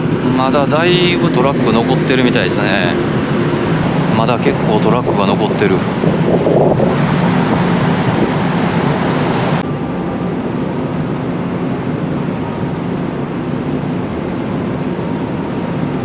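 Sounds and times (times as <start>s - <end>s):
ship engines droning: 0.0s - 16.0s
wind noise: 0.0s - 16.0s.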